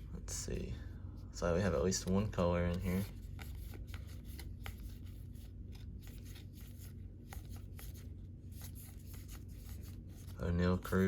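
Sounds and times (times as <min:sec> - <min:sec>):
steady low hum: 0:00.0 - 0:11.0
cards clicking and rustling: 0:02.0 - 0:11.0.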